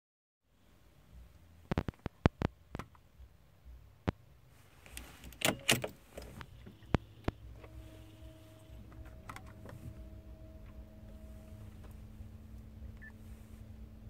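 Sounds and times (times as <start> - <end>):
faint steady hum: 0.5 - 14.0.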